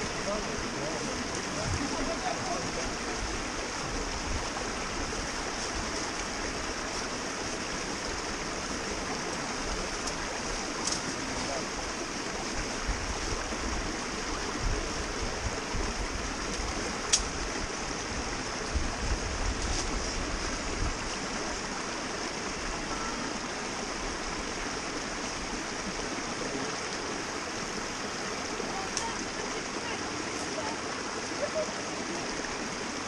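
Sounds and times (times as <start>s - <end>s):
stream rushing over stones: 0.0s - 33.0s.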